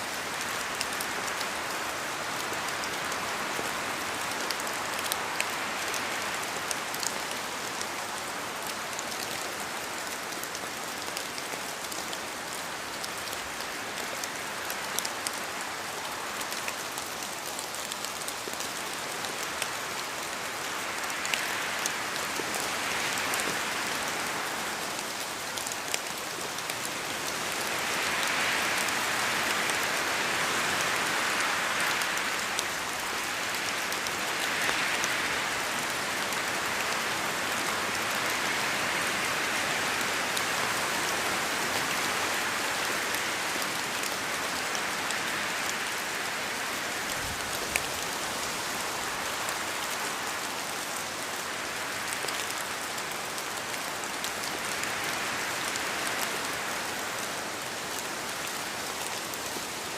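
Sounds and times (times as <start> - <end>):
rain falling in forest: 0.0 - 59.9
wind: 0.0 - 59.9.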